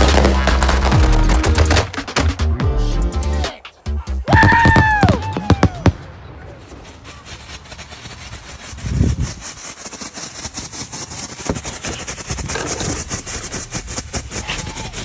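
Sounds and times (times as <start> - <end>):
firework popping crackle: 0.0 - 2.5, 4.2 - 15.0.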